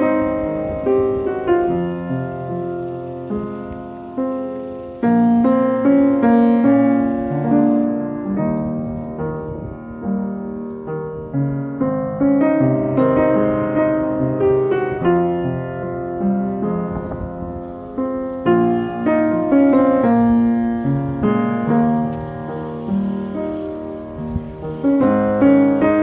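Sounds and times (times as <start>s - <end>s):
slow piano piece: 0.0s - 26.0s.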